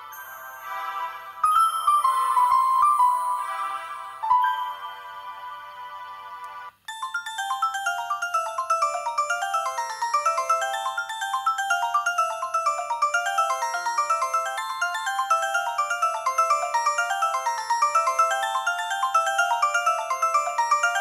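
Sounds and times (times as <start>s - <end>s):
polyphonic ringtone tune: 0.0s - 21.0s.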